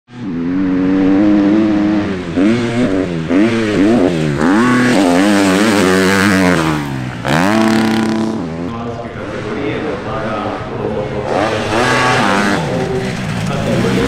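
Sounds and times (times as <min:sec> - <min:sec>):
dirt bike engines revving: 0:00.1 - 0:14.0.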